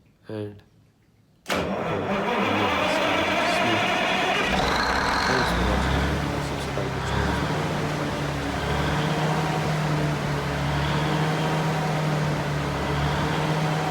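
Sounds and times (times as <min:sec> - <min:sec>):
diesel engine running: 0:01.5 - 0:13.9.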